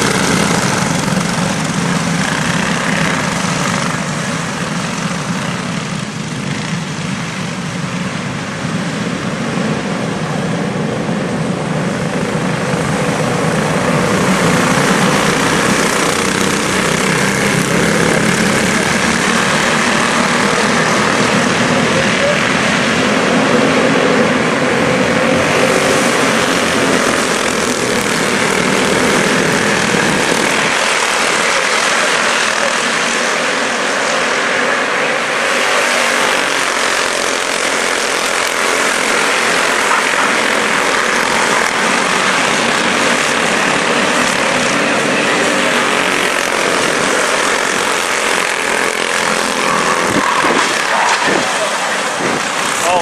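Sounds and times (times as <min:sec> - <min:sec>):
small race car engines buzzing: 0:00.0 - 0:53.0.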